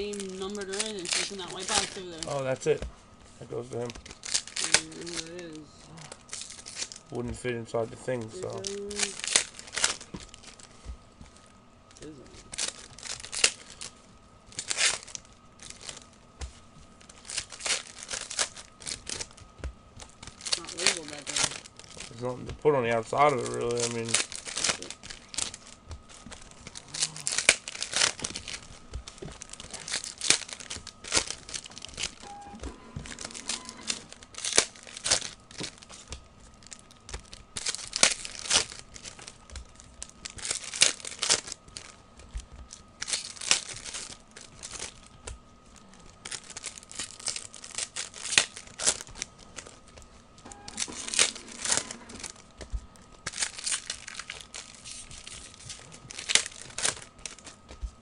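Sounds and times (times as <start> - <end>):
wrappers tearing and crinkling: 0.0 - 58.0.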